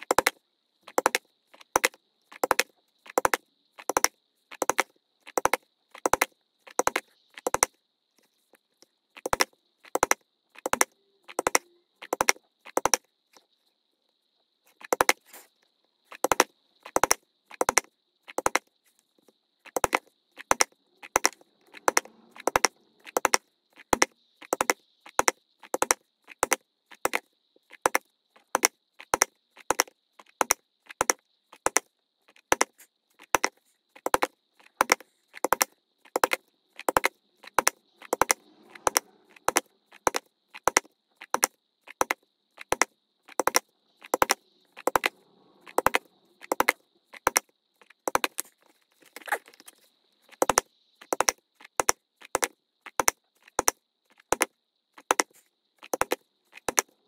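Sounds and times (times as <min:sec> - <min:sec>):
faint high whine: 0:00.0 - 0:57.0.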